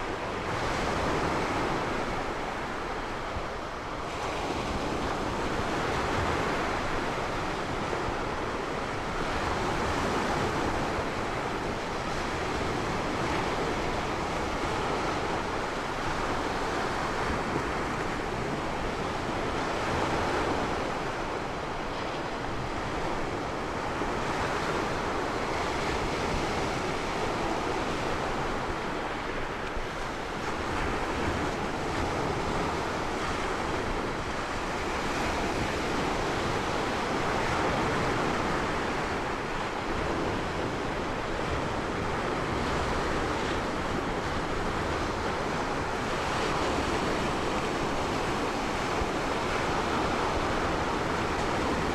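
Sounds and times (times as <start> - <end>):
ocean waves washing in: 0.0 - 51.9
wind on microphone: 0.0 - 51.9.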